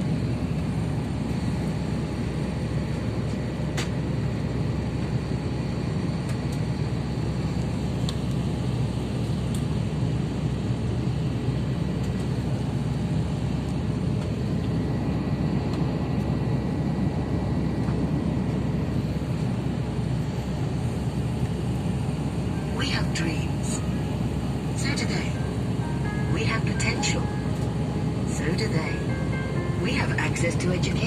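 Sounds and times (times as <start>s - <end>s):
airliner cabin noise: 0.0s - 31.0s.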